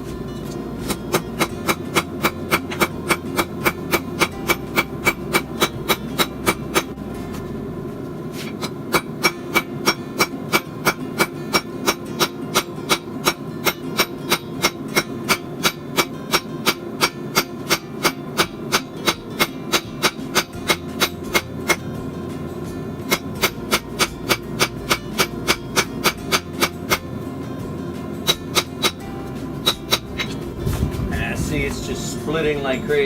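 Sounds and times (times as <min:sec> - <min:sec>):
steady low noise: 0:00.0 - 0:33.0
hammer striking metal on anvil: 0:00.8 - 0:07.1, 0:08.4 - 0:22.1, 0:23.0 - 0:27.2, 0:28.2 - 0:30.5.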